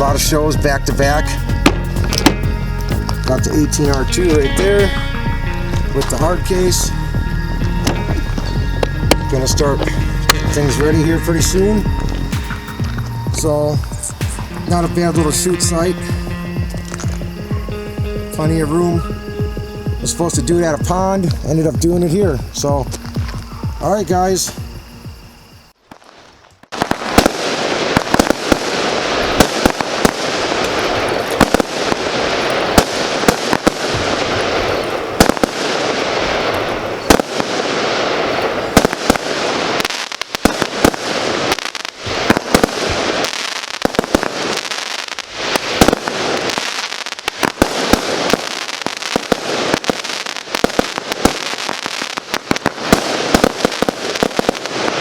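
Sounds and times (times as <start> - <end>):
fireworks shots and crackle: 0.0 - 55.0.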